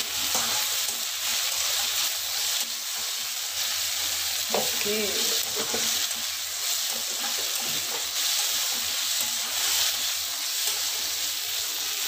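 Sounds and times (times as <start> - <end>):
spatula stirring in pan: 0.0 - 12.0
vegetables sizzling in oil: 0.0 - 12.0.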